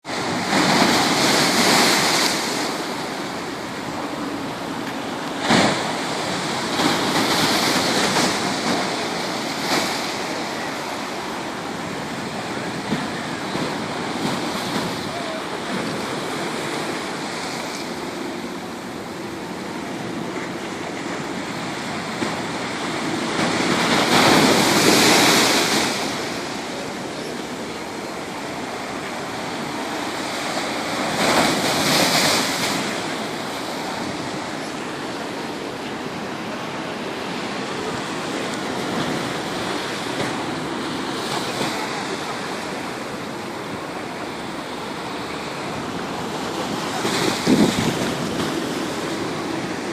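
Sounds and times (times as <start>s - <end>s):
stormy sea waves breaking: 0.0s - 49.9s.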